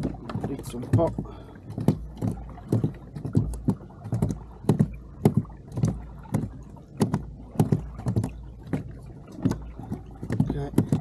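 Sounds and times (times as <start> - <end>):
knocks on a plastic kayak: 0.0 - 11.0
low steady rumble: 0.0 - 11.0.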